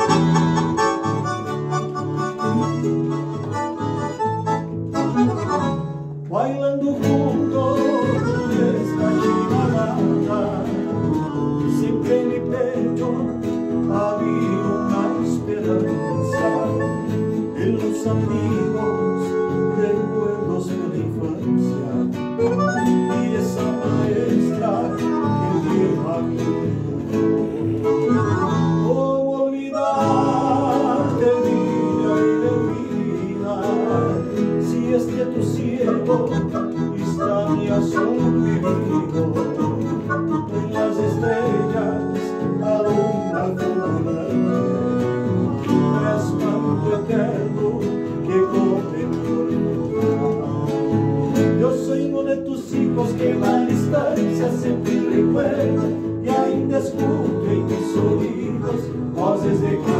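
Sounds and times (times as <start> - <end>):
accordion: 0.0 - 59.9
acoustic guitar: 0.0 - 59.9.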